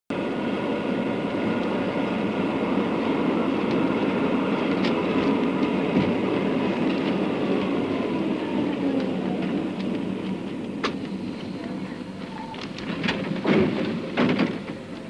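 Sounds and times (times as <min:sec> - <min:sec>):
tram wheels rumbling on rails: 0:00.1 - 0:15.0.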